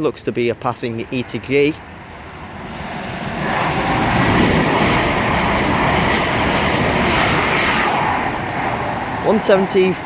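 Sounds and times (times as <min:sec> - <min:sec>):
diesel train passing at speed: 0:00.0 - 0:10.0.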